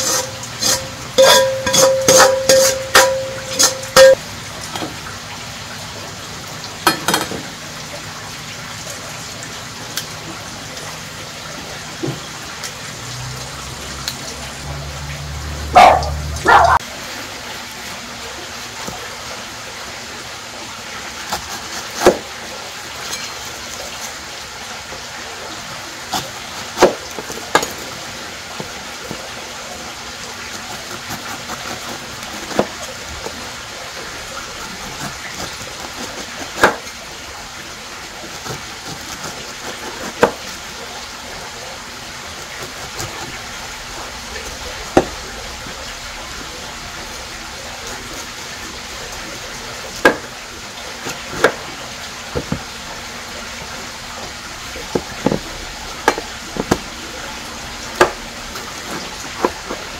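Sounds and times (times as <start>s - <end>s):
tap water running: 0.0s - 59.9s.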